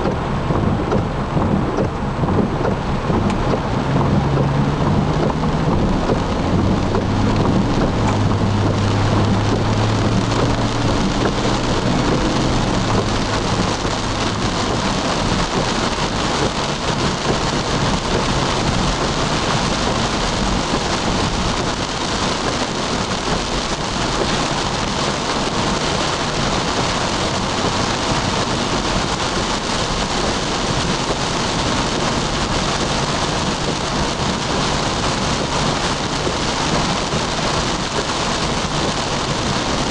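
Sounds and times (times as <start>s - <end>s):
low engine hum: 0.0s - 39.9s
rain on car windshield and roof: 0.0s - 39.9s
tyres hissing on wet road: 0.0s - 39.9s.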